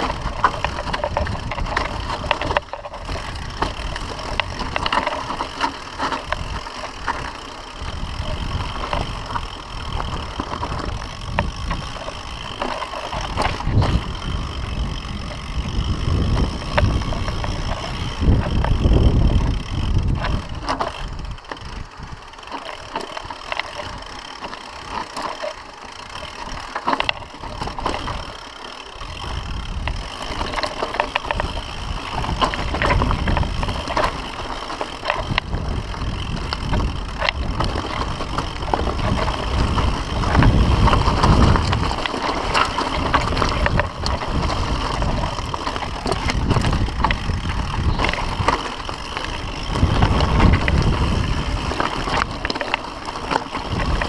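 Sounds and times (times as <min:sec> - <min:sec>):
bike rattling: 0:00.0 - 0:54.0
tyres crunching over stones: 0:00.0 - 0:54.0.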